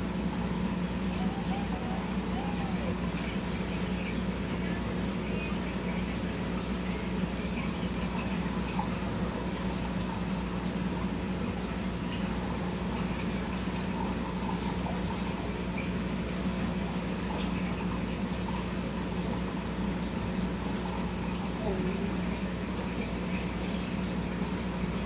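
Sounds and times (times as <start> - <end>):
low motor hum: 0.0 - 25.0
water splashing and trickling: 0.0 - 25.0.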